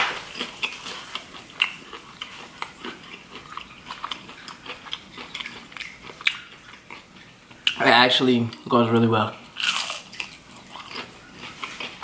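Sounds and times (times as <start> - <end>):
person chewing wetly: 0.1 - 7.8, 9.5 - 12.0.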